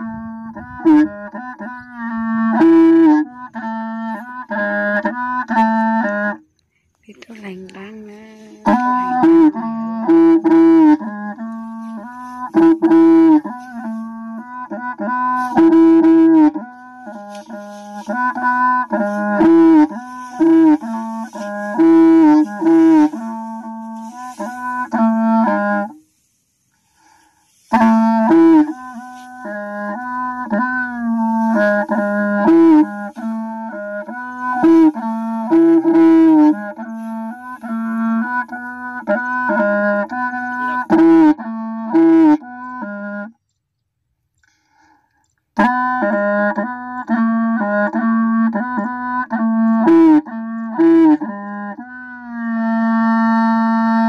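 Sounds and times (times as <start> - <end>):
instrumental melody over held note: 0.0 - 6.4, 7.4 - 26.0, 27.2 - 43.4, 45.6 - 54.0.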